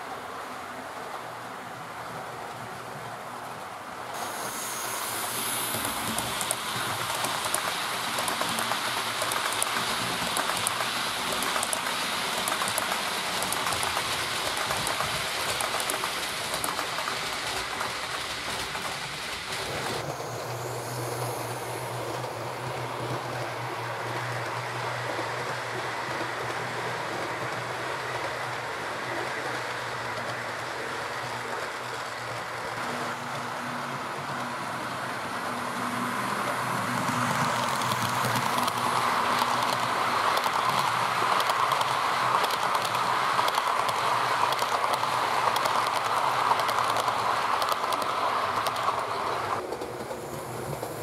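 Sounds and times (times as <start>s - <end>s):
model train wheels rattling on rail: 4.2s - 51.0s.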